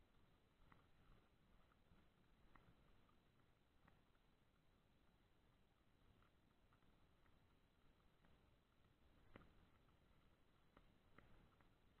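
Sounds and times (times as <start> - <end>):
very faint ticks: 0.0 - 12.0.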